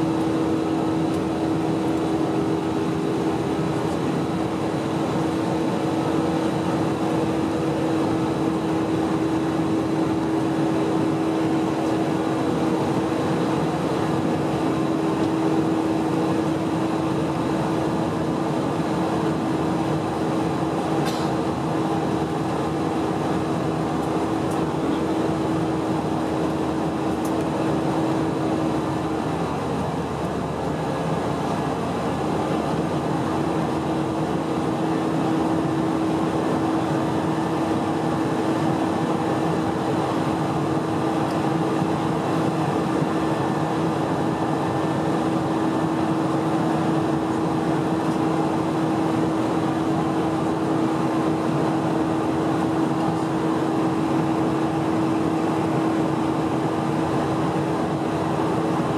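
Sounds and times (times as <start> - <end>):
jet engines droning: 0.0 - 58.9
steady hum: 0.0 - 58.9.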